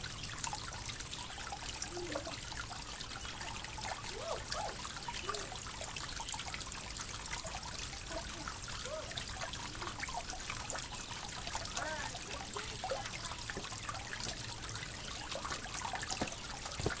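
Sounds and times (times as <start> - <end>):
creek trickling over rocks: 0.0 - 17.0.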